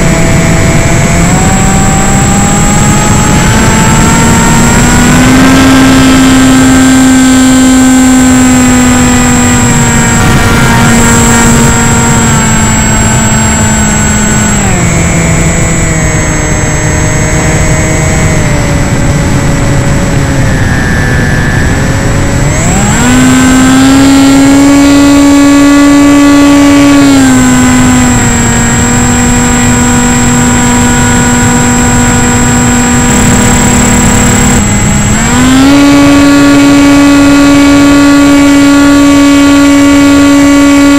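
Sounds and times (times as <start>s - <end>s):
model plane motor whine: 0.0s - 40.9s.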